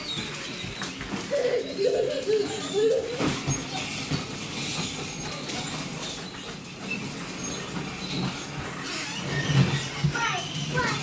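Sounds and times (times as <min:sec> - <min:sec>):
toy car wheels rolling on floor: 0:00.0 - 0:11.0.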